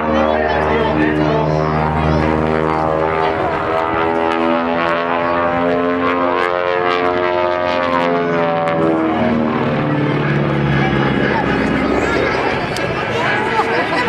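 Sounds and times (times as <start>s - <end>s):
radial aircraft engines droning: 0.0s - 14.0s.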